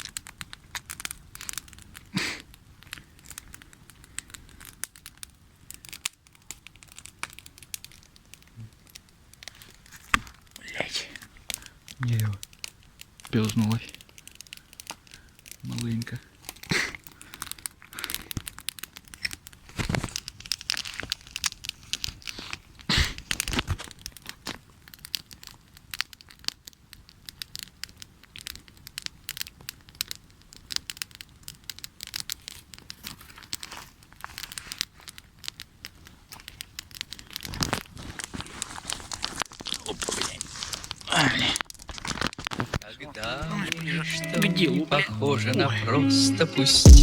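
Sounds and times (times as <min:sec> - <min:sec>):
campfire crackling and popping: 0:00.0 - 0:44.8.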